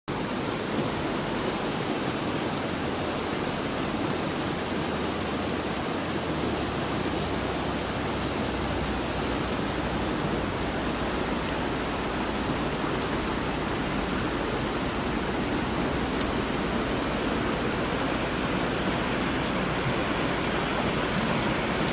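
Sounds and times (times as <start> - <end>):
creek water rushing: 0.1 - 21.9.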